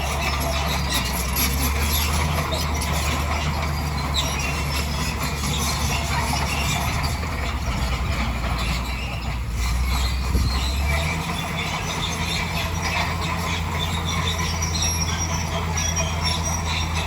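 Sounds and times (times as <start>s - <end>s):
bulldozer diesel engine: 0.0s - 17.0s
crawler tracks squeaking and grinding: 0.0s - 17.0s.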